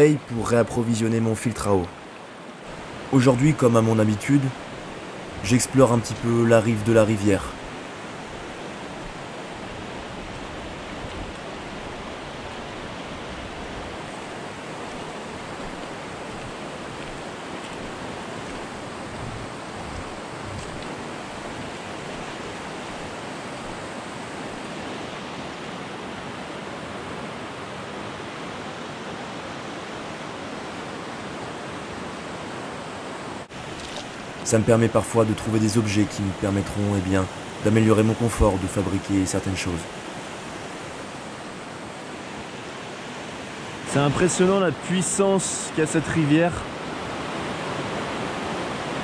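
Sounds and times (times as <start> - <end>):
river rushing over rocks: 0.0 - 49.0.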